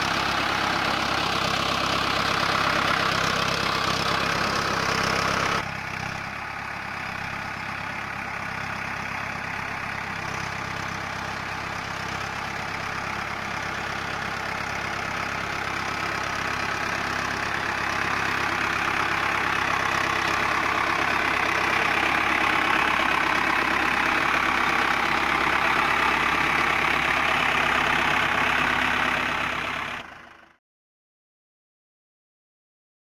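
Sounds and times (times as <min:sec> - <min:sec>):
tractor diesel engine running: 0:00.0 - 0:30.6.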